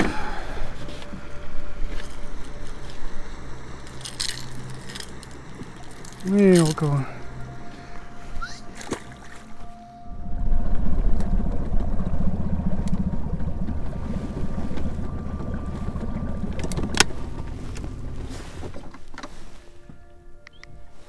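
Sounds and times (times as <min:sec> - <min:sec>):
boat motor rumbling: 0:00.0 - 0:21.0.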